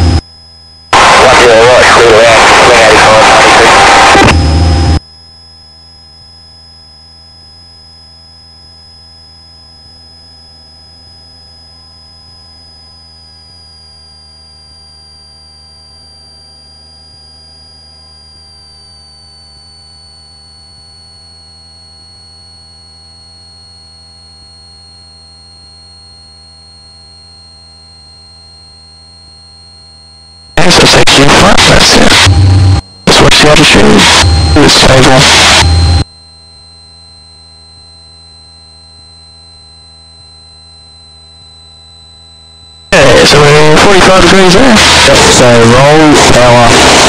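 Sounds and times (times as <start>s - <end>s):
electrical whine: 0.0s - 47.0s.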